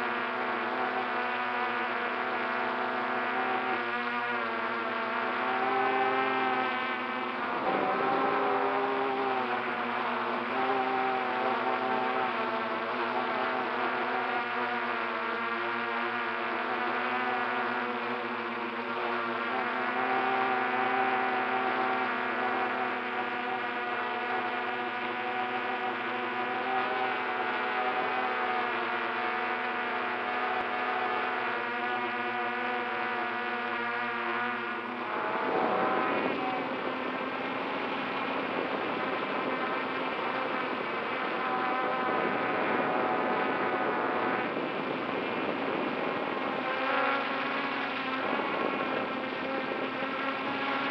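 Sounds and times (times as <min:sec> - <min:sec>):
drone propellers buzzing: 0:00.0 - 0:50.9.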